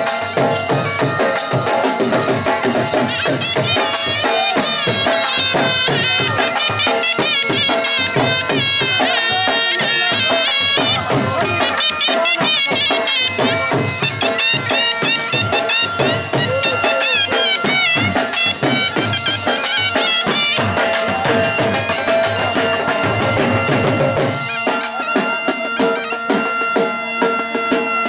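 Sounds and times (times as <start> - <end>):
bagpipe drones and melody: 0.0 - 28.0
dhol drum beating: 0.0 - 28.0.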